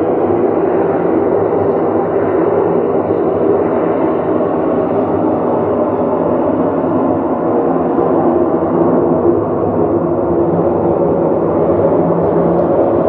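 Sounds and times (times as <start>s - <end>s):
loud steady drone: 0.0s - 13.0s.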